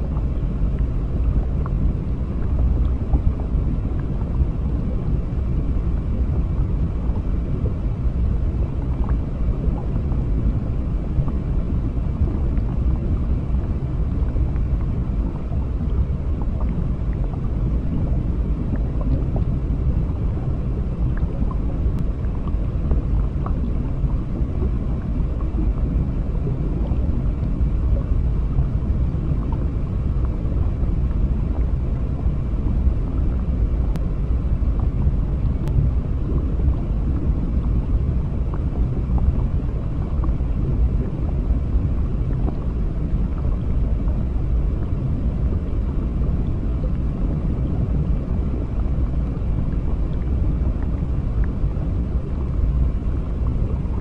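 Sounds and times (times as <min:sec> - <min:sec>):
underwater rumble of moving water: 0:00.0 - 0:54.0.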